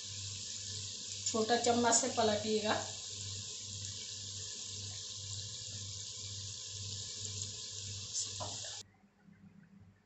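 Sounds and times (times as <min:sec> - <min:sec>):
dough sizzling in hot oil: 0:00.0 - 0:08.8.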